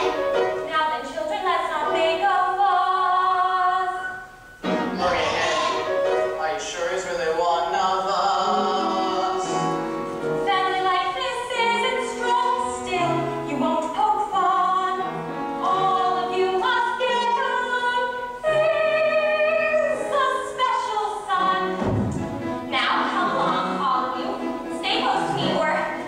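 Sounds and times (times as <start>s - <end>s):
group singing musical song: 2.5s - 26.0s.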